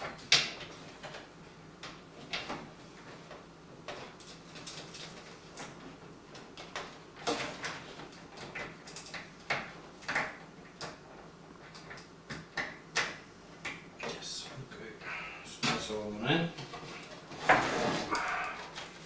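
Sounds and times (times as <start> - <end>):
cables and parts rustling: 0.0 - 19.0.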